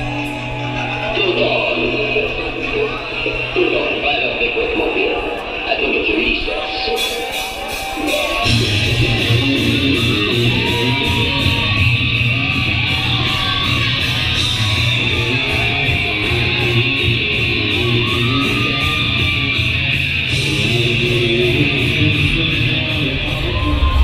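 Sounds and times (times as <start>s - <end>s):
heavy metal band playing: 0.0s - 24.0s.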